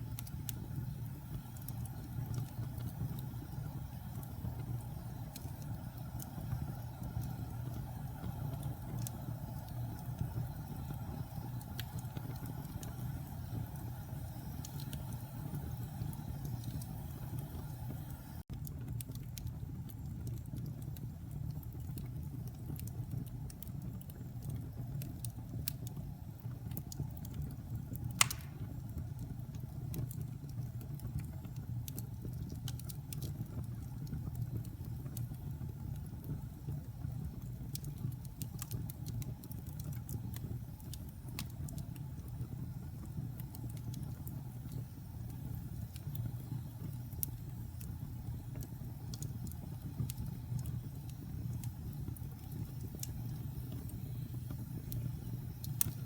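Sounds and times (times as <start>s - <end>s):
fire popping: 0.0s - 56.0s
wood fire crackling: 0.0s - 56.0s.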